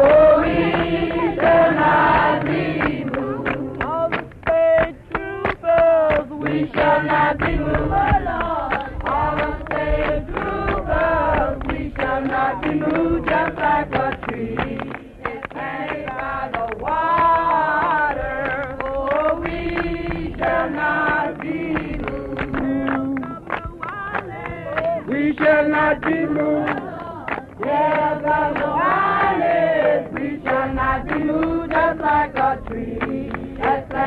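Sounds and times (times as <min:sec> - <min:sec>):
voices singing a song: 0:00.0 - 0:34.0.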